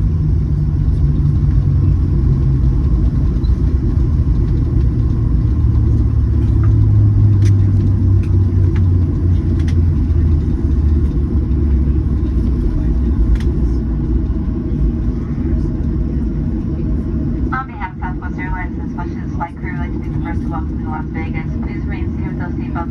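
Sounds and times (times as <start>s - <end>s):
engine and wheels rumbling: 0.0s - 22.9s.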